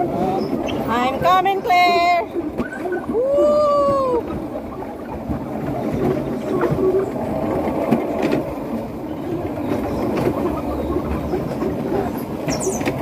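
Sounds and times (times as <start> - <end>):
sled rolling rumble: 0.0 - 13.0.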